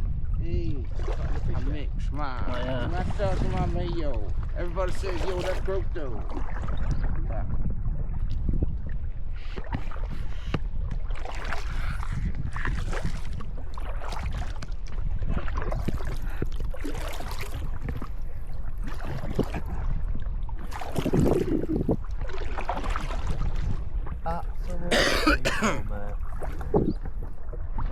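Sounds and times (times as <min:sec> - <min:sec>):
wind on microphone: 0:00.0 - 0:27.9
kayak paddle splashing: 0:00.8 - 0:27.9.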